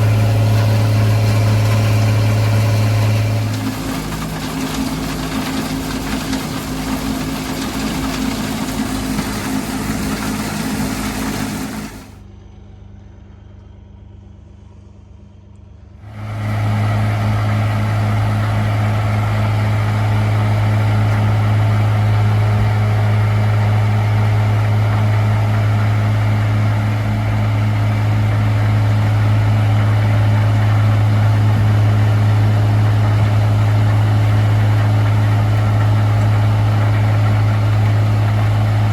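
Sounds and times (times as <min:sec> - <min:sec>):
tractor diesel engine under load: 0:00.0 - 0:12.3, 0:15.8 - 0:38.9.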